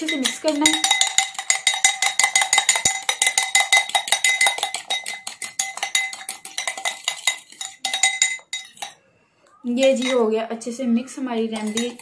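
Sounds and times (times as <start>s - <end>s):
utensil clinking against bowl: 0.0s - 9.0s, 9.8s - 10.3s, 11.5s - 12.0s.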